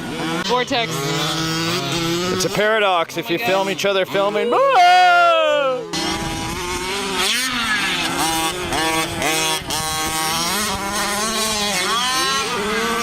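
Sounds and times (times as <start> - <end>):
rc car motors revving: 0.0 - 4.5, 5.4 - 13.0.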